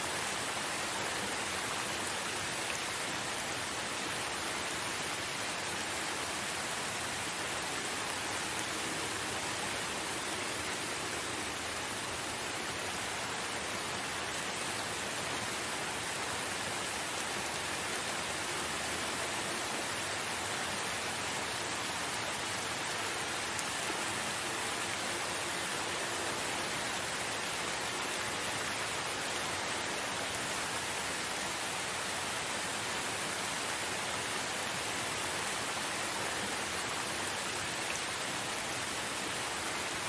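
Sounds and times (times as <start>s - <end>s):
steady rain in a forest: 0.0s - 40.0s.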